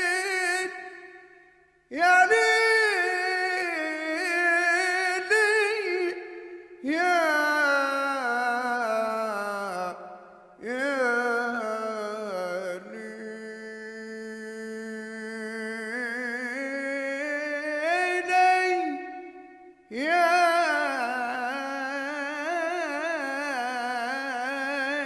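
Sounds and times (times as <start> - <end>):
solo voice singing: 0.0 - 1.2, 1.9 - 25.0.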